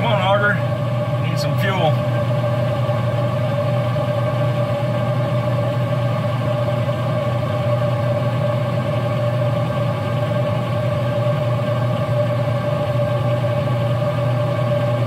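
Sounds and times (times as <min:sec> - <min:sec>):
fan humming with faint whine: 0:00.0 - 0:15.0.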